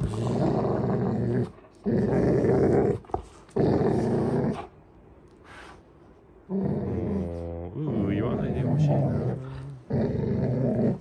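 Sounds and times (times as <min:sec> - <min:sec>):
dogs growling in play: 0:00.0 - 0:04.8, 0:06.4 - 0:11.0.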